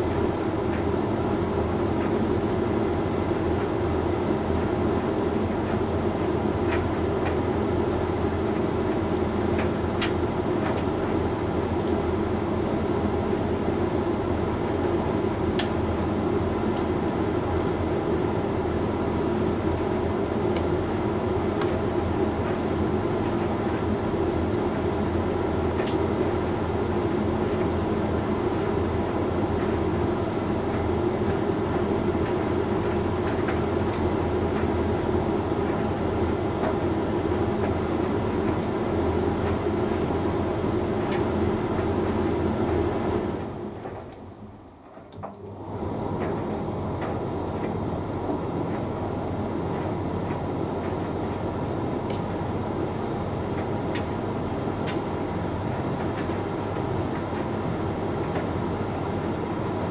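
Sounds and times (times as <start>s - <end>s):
tumble dryer humming: 0.0s - 59.9s.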